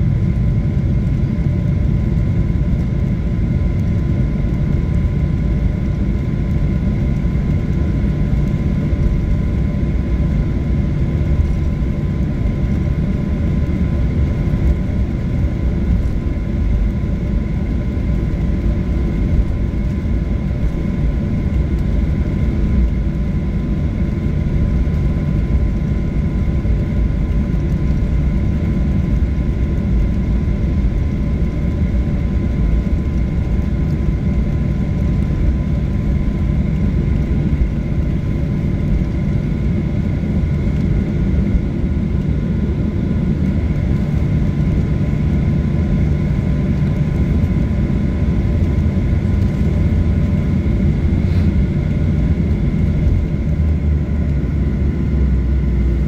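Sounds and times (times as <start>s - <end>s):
constant engine whine: 0.0s - 56.0s
jet engine low rumble: 0.0s - 56.0s.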